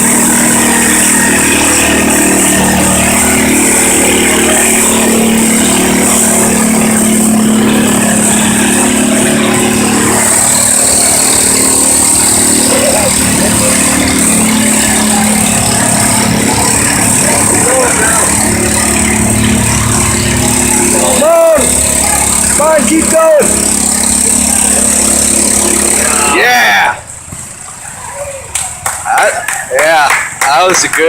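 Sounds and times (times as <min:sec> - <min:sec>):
garden tractor engine running: 0:00.0 - 0:31.0.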